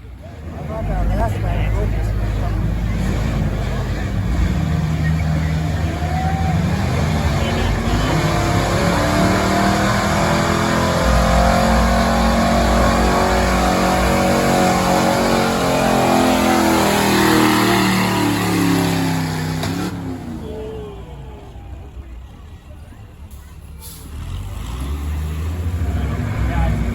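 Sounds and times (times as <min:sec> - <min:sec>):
truck engine at high revs: 0:00.0 - 0:26.9.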